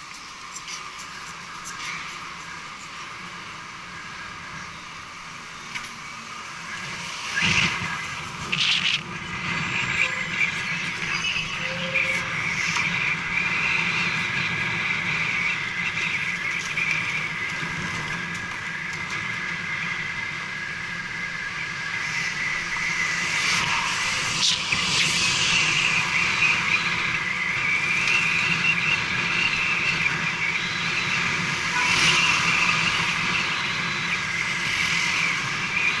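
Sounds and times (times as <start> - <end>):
wind and road rush: 0.0 - 36.0.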